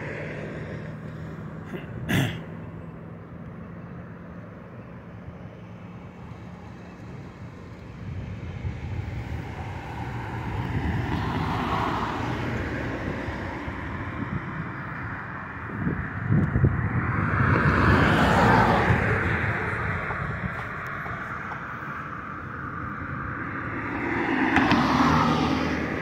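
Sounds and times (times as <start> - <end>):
steady traffic hum: 0.0 - 26.0
vehicle passing: 0.0 - 26.0.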